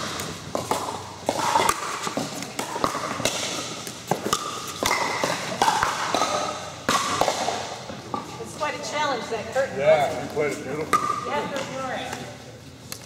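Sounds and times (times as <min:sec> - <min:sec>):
balls bouncing on court: 0:00.0 - 0:08.7, 0:10.0 - 0:12.4.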